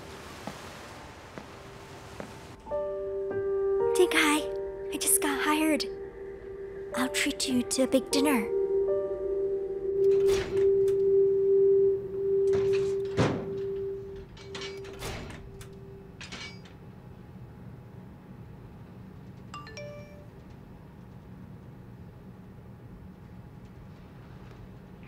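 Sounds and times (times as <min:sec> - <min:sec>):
low machinery hum: 0:04.4 - 0:25.0.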